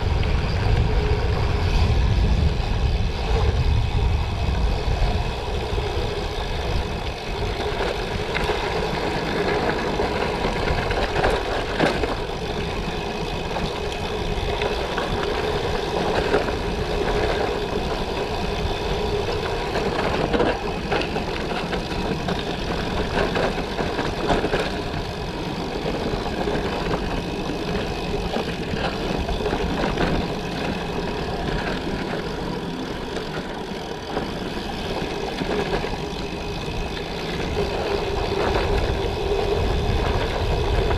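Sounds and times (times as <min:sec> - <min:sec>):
bike tyres crunching on gravel: 0:05.0 - 0:40.9
bike knocks and rattles: 0:05.6 - 0:40.9.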